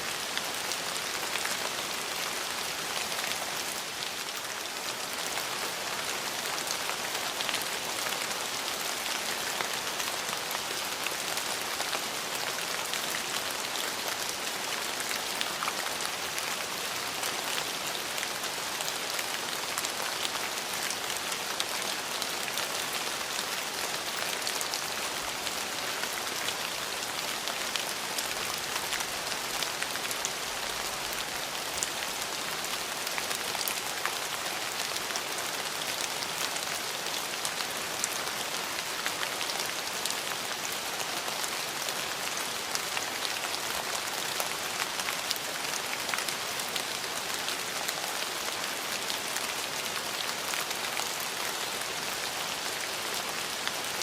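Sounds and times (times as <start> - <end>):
rain falling: 0.0 - 54.0
raindrops ticking nearby: 0.0 - 54.0.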